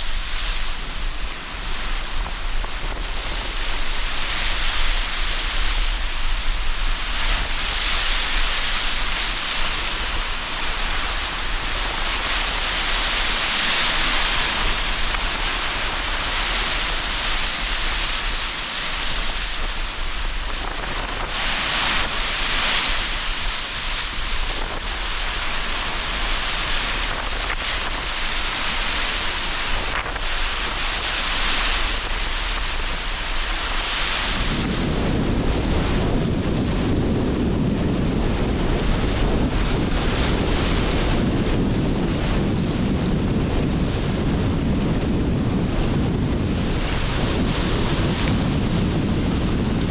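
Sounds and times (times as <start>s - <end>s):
low wind rumble: 0.0s - 49.9s
sea surf breaking: 0.0s - 49.9s.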